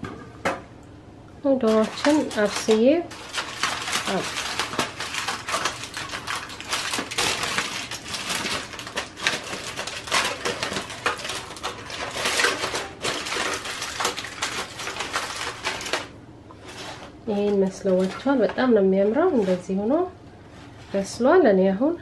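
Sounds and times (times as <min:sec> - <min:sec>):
aluminium foil crinkling: 0:01.5 - 0:20.1.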